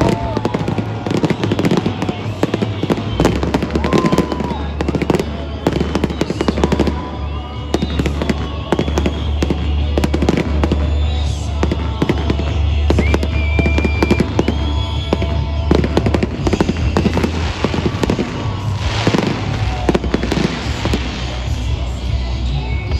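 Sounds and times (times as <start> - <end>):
fireworks bangs and crackling: 0.0 - 22.9.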